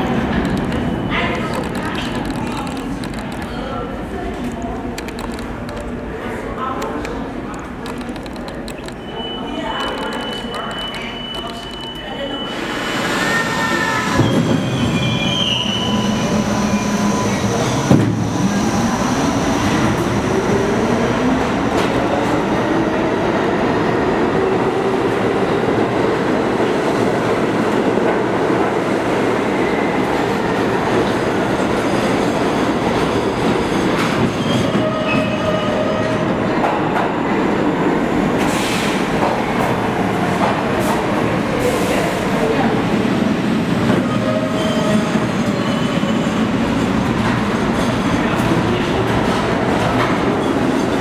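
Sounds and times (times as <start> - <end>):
subway train running noise: 0.0 - 51.0.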